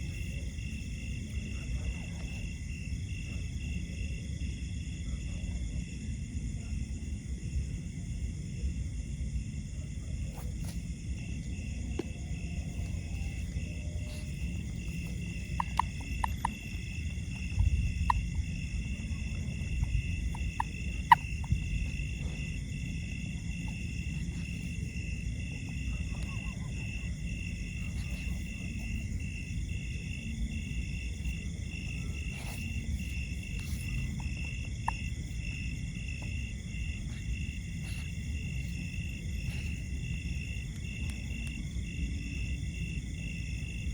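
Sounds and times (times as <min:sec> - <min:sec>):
insect chorus trilling: 0:00.0 - 0:43.9.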